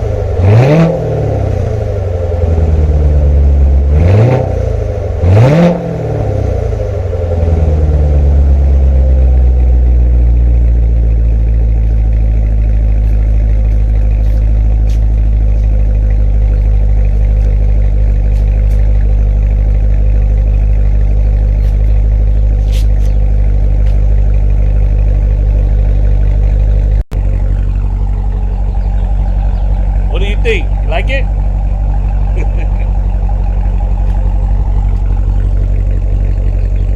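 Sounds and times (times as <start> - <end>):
v eight engine idling: 0.0 - 36.9.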